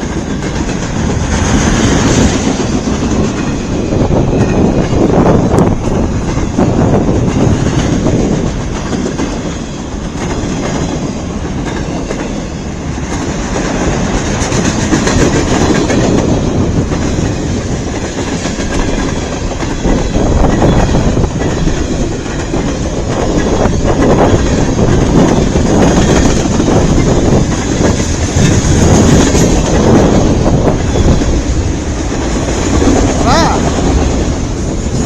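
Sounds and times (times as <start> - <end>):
train wheels clacking on rails: 0.0 - 35.0.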